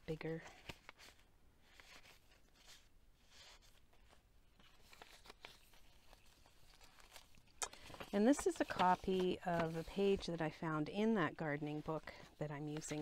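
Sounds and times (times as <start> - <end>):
paper pages rustling: 0.2 - 13.0.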